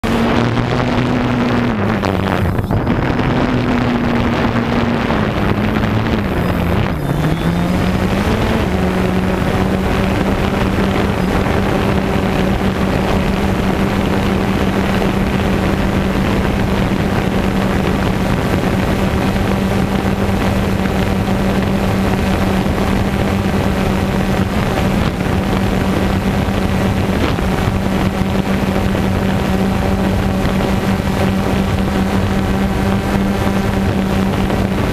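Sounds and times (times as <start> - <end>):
drone propellers humming: 0.0 - 34.9
wind on microphone: 0.0 - 34.9.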